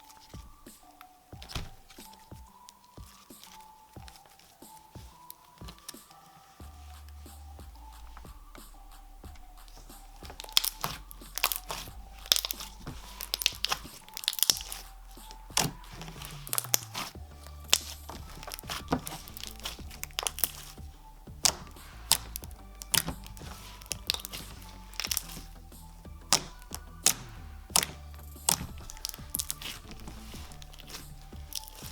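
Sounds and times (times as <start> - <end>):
slime crackling and popping: 0.0 - 31.9
soft background music: 0.0 - 31.9.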